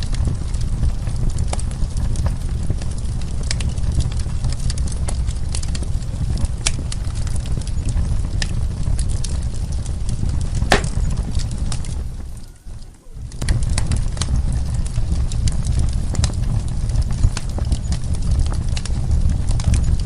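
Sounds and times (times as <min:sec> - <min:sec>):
burning wood popping: 0:00.0 - 0:20.0
wood fire crackling: 0:00.0 - 0:20.0.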